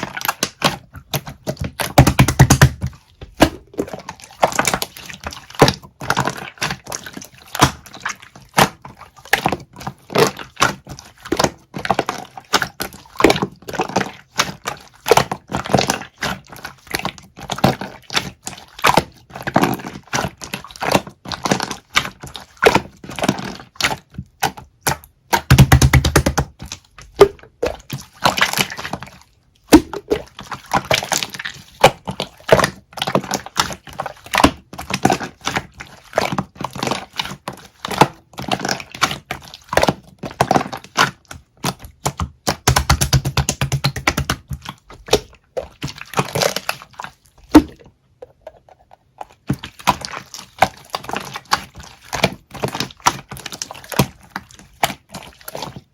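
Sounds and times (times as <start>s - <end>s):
slime squished crackling: 0.0s - 47.9s, 49.1s - 55.9s.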